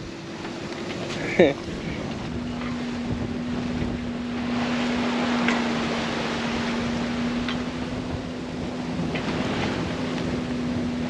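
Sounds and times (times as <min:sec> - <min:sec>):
rushing water: 0:00.0 - 0:11.0
steady low hum: 0:00.0 - 0:11.0
wind: 0:00.0 - 0:11.0.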